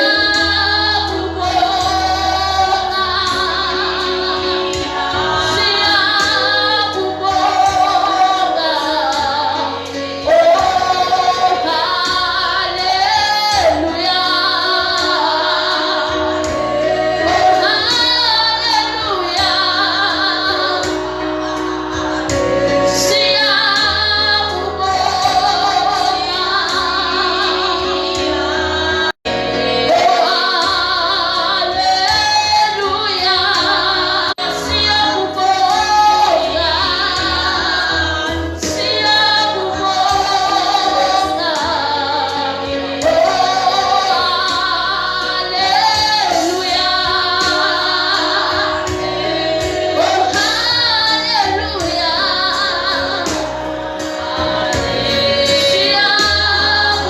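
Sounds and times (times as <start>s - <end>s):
woman singing gospel: 0.0s - 57.0s.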